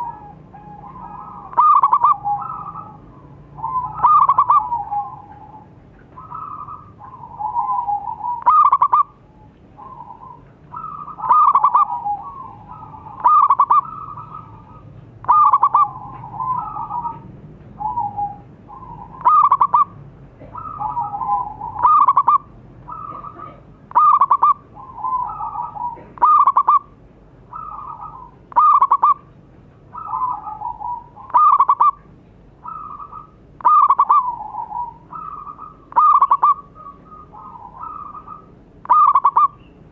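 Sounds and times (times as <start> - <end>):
dove cooing: 0.0 - 29.3, 29.9 - 39.6.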